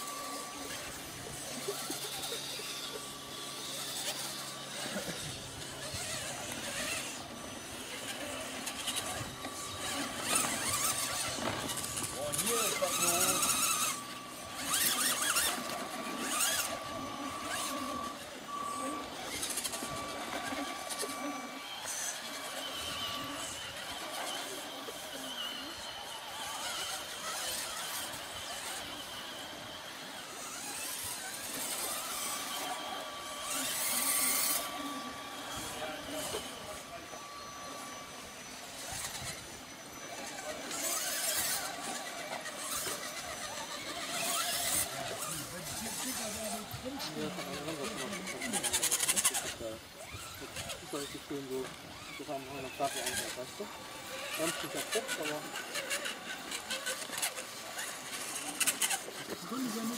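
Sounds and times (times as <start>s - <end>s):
electric motors of rc trucks whirring: 0.0s - 59.9s
indistinct voices: 0.0s - 59.9s.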